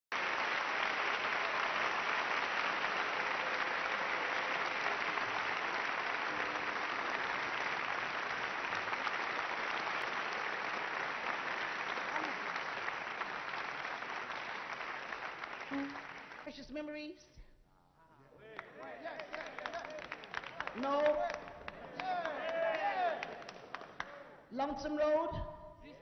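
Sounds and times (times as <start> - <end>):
audience applauding: 0.0 - 16.6, 18.5 - 24.4.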